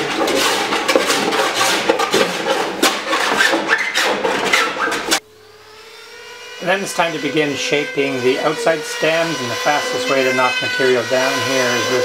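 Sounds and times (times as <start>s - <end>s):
block plane rasping on wood: 0.0s - 5.1s, 6.6s - 12.0s.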